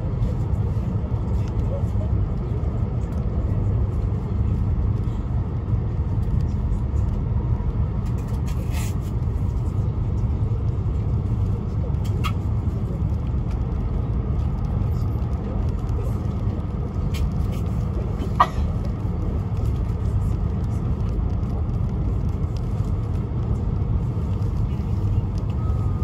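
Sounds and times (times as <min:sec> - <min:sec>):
train rumble inside cabin: 0:00.0 - 0:26.0.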